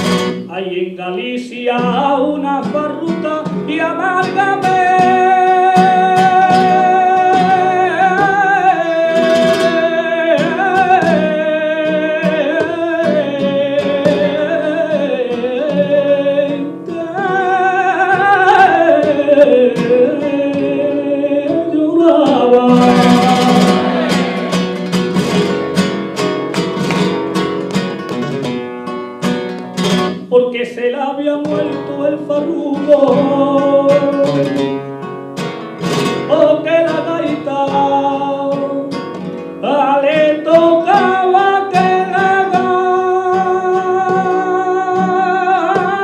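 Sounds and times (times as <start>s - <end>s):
acoustic flamenco guitar: 0.0s - 46.0s
man singing melismatic lines: 0.4s - 27.4s, 30.2s - 35.0s, 36.1s - 46.0s.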